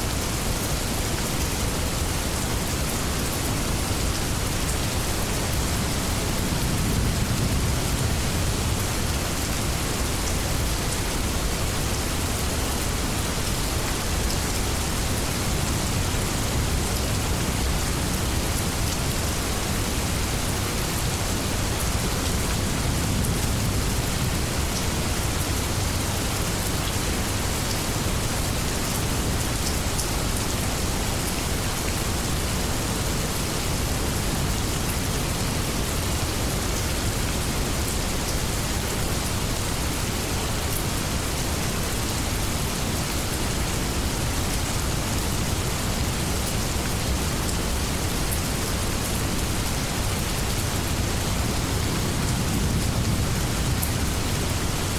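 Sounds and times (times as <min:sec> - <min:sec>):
heavy rain hissing: 0:00.0 - 0:54.9.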